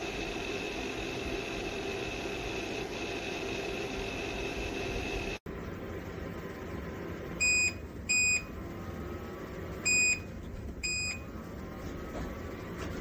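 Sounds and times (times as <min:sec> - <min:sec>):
heater humming: 0:00.0 - 0:13.0.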